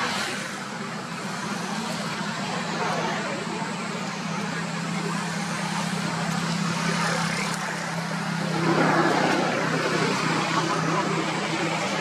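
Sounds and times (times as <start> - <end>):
broad rushing noise: 0.0 - 12.0.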